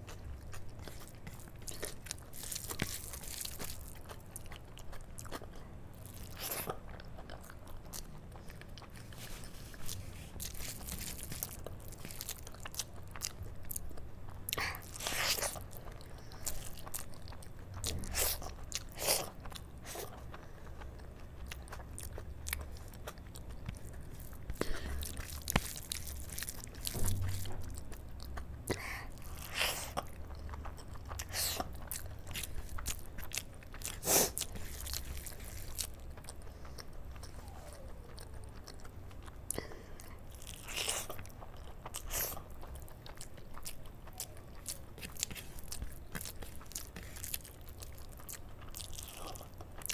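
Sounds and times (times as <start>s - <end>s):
chewing and wet mouth smacking: 0.0s - 49.9s.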